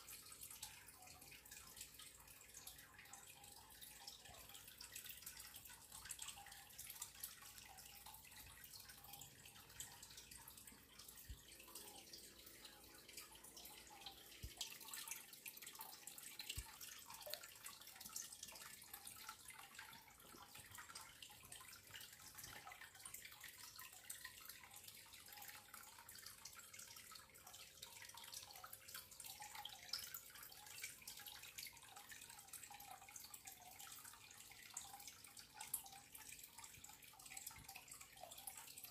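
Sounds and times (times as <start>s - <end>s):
water dripping: 0.0s - 38.9s
water trickling: 0.0s - 38.9s.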